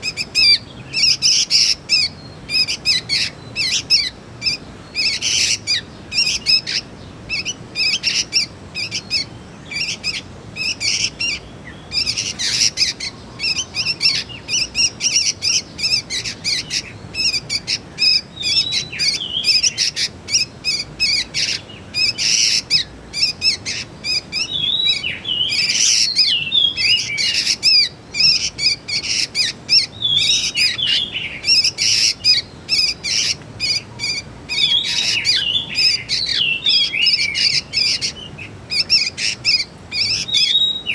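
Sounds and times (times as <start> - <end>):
young birds chirping: 0.0 - 40.9.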